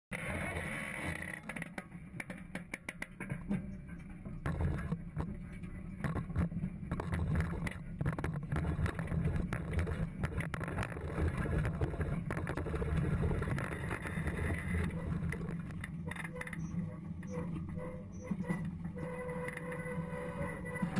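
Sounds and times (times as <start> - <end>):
knocks and rattles: 1.4 - 18.9.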